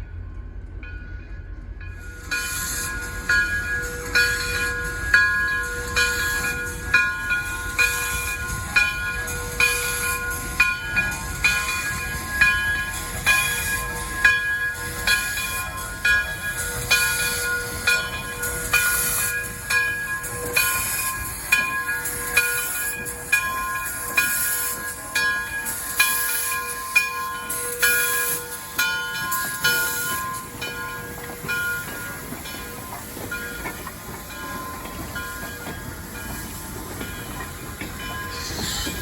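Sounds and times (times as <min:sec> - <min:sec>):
railway bell ringing: 0:00.0 - 0:39.0
train running: 0:00.0 - 0:39.0.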